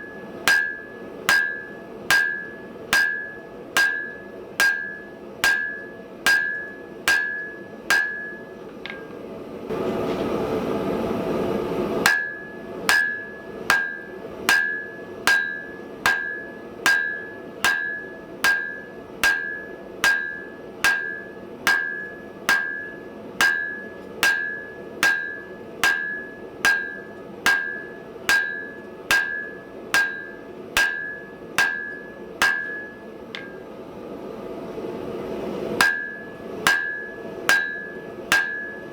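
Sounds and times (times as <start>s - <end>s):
hammer striking steel on anvil: 0.0s - 9.2s, 12.0s - 33.8s, 35.8s - 38.9s.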